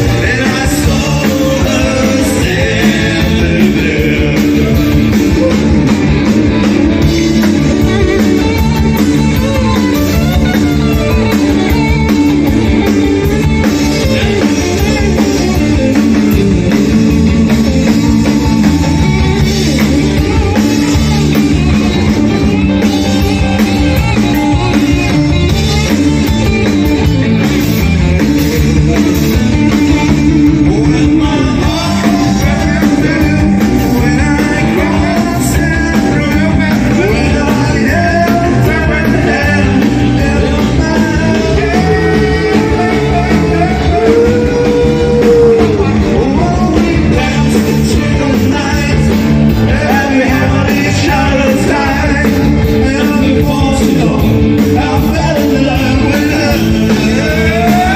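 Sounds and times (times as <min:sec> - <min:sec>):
live rock band playing: 0:00.0 - 0:57.9
man singing: 0:00.0 - 0:57.9.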